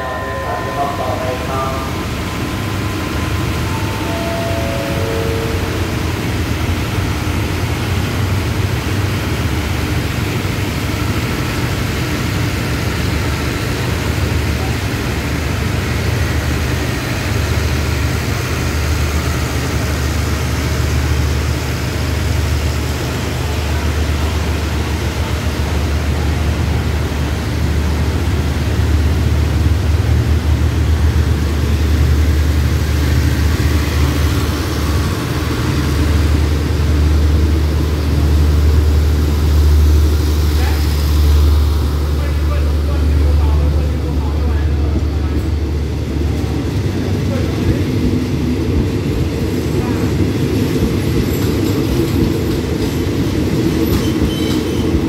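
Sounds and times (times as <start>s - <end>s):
diesel train engine drone: 0.0s - 55.0s.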